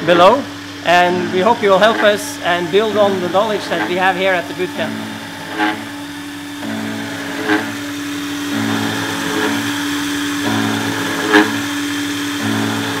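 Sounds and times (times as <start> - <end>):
spindle motor steady tone: 0.0 - 13.0
stepper motors humming: 0.0 - 13.0
short loud machine sounds: 0.9 - 13.0.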